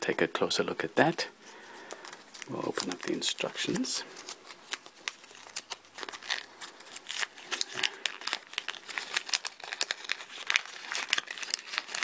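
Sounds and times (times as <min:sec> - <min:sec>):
paper leaflet crinkling: 0:01.5 - 0:12.0.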